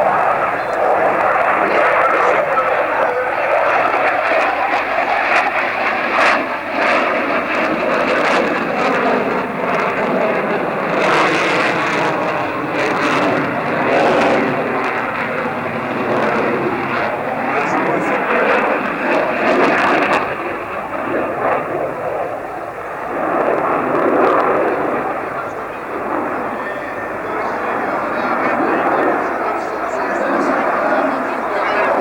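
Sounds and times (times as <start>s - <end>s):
airplane engine rushing: 0.0s - 32.0s.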